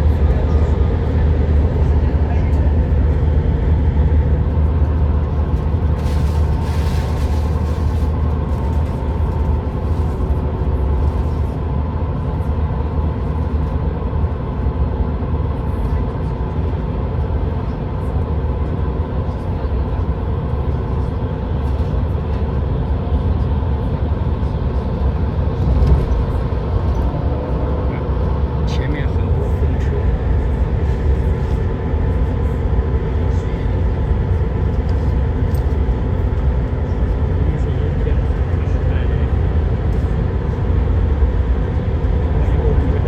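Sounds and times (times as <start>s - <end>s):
moving vehicle rumble: 0.0s - 43.0s.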